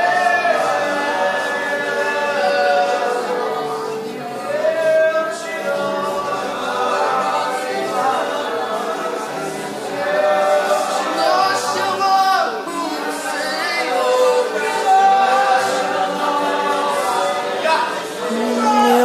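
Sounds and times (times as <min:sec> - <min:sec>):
congregation singing: 0:00.0 - 0:19.0.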